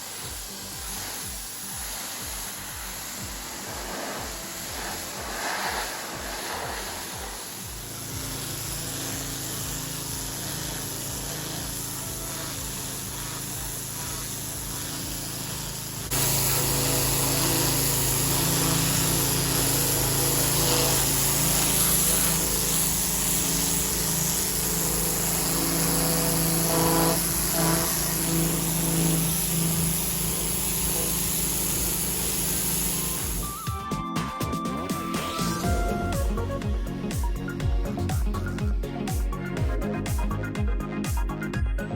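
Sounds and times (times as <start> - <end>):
water spray hissing: 0.0 - 33.7
pressure washer motor hum: 0.0 - 33.8, 34.7 - 41.6.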